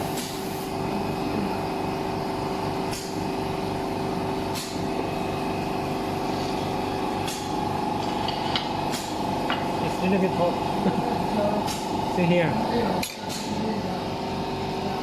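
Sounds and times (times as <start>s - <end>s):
welding machine hum: 0.0s - 15.0s.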